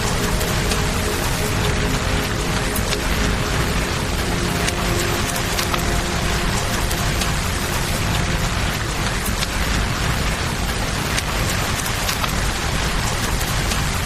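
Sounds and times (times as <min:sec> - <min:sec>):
river flowing: 0:00.0 - 0:14.0
steady rain falling: 0:00.0 - 0:14.0.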